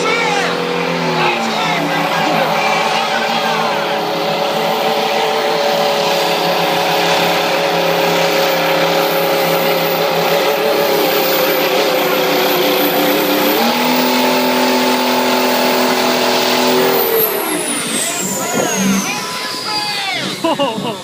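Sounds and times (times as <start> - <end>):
truck engine under heavy load: 0.0 - 21.0.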